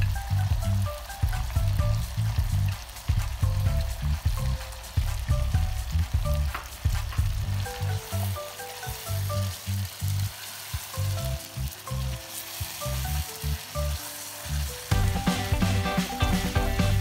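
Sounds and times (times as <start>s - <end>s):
music with pulsing bass: 0.0s - 10.3s, 13.0s - 17.0s
chicken sizzling in a pot: 0.0s - 17.0s.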